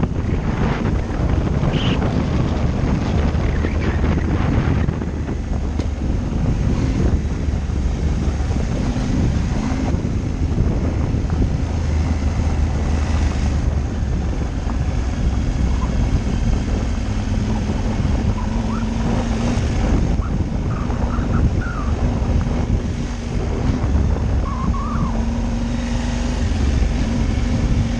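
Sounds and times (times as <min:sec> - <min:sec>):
motorcycle engine running: 0:00.0 - 0:27.9
wind buffeting microphone: 0:00.0 - 0:27.9.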